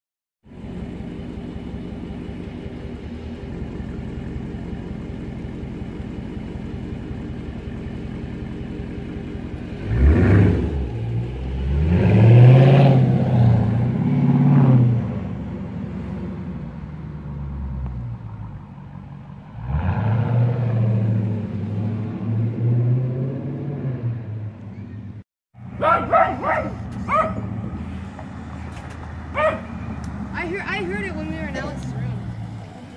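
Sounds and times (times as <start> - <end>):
car engine idling and revving: 0.4 - 32.9.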